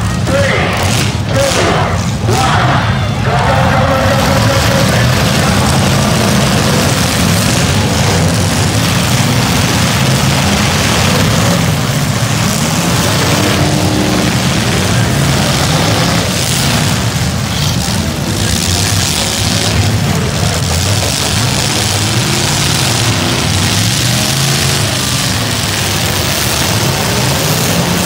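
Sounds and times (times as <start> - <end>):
loud car engines running: 0.0 - 28.0.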